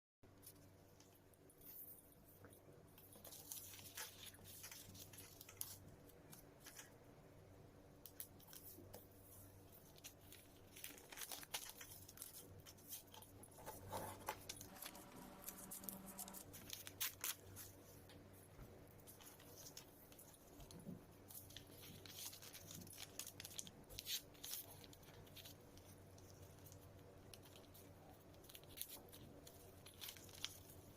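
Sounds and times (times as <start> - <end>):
paper rustling and creasing: 3.0 - 7.0, 8.4 - 18.1, 19.0 - 30.9.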